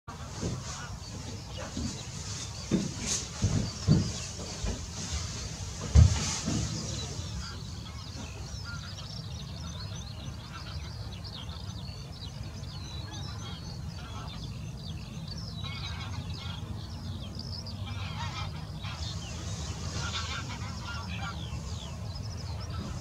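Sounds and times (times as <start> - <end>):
waterbirds calling: 0.1 - 23.0.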